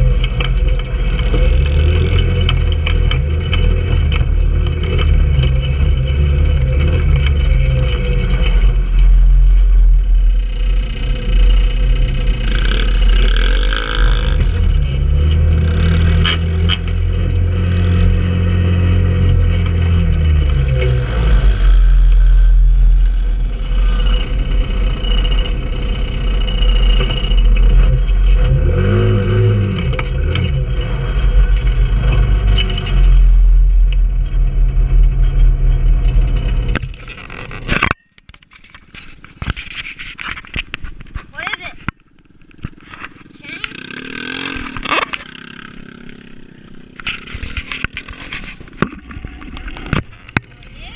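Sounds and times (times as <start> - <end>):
go-kart engine revving: 0.0 - 38.0, 39.1 - 50.9.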